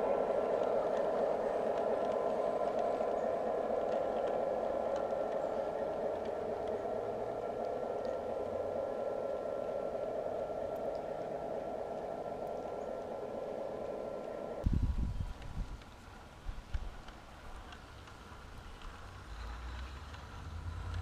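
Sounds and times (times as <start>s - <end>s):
faint clicks: 0.0s - 14.7s, 15.3s - 21.0s
model train rumbling: 0.0s - 21.0s.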